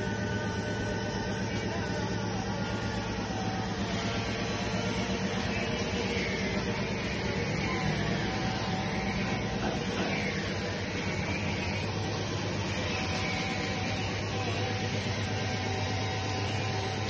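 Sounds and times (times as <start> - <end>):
air compressor droning: 0.0 - 17.0.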